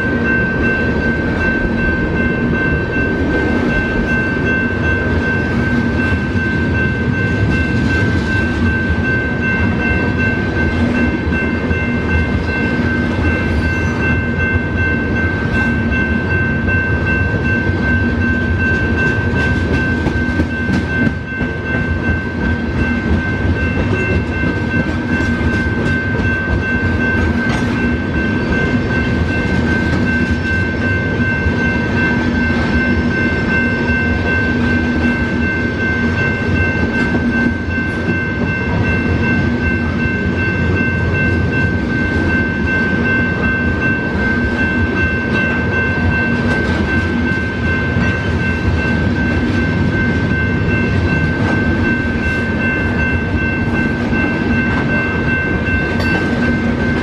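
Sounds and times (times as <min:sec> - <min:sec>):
crossing bell ringing: 0:00.0 - 0:57.0
train wheels clattering on rails: 0:00.0 - 0:57.0.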